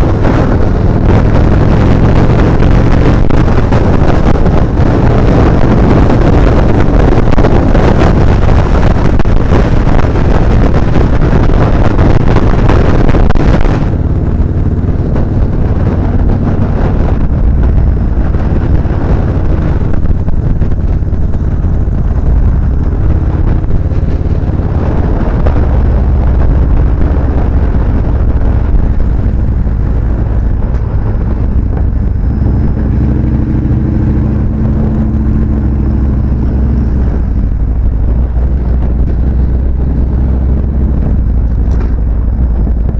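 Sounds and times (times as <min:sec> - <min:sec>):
motorcycle engine running: 0:00.0 - 0:42.9
wind rush on microphone: 0:00.0 - 0:42.9.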